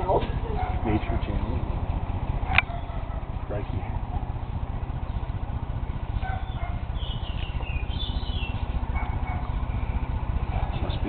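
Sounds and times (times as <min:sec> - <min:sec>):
birds chirping: 0:00.0 - 0:11.0
low rumble: 0:00.0 - 0:11.0.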